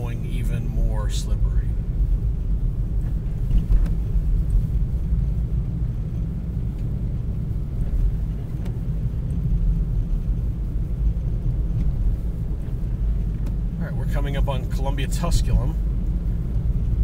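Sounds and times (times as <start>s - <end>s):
vehicle engine and tyre rumble: 0.0s - 17.0s.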